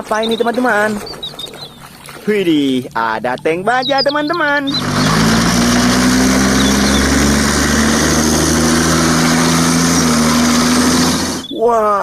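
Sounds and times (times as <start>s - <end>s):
motor running steadily: 0.0s - 11.6s.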